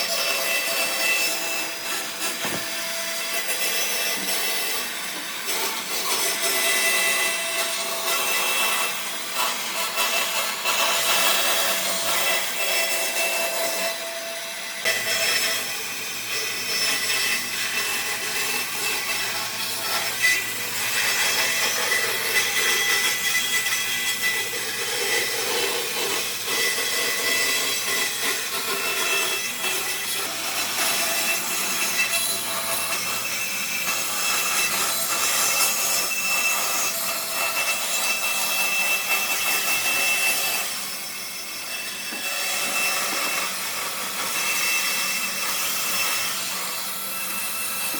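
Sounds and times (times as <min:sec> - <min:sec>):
power tool cutting wood: 0:00.0 - 0:47.9.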